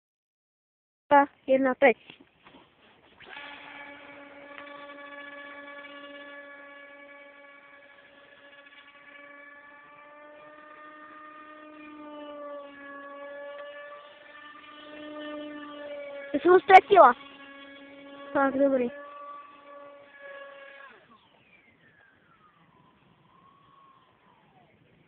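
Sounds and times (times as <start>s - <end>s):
model plane motor whine: 2.5s - 25.0s.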